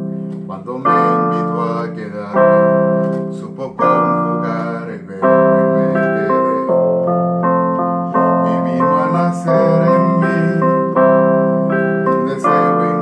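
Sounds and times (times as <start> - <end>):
electronic keyboard piano melody: 0.0 - 13.0.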